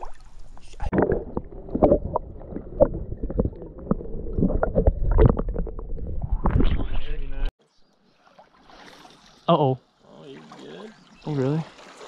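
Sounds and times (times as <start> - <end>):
underwater sloshing and gurgling: 0.0 - 12.0.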